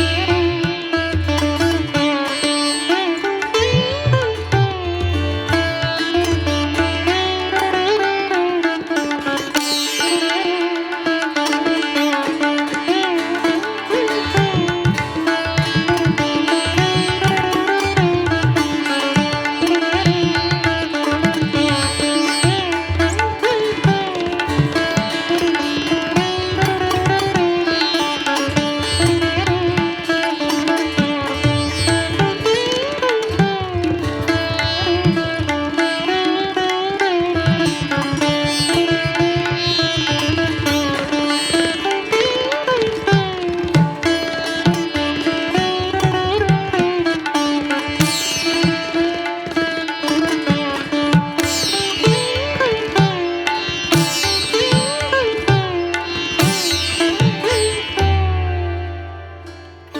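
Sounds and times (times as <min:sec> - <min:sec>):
plucked-string melody: 0:00.0 - 0:59.9.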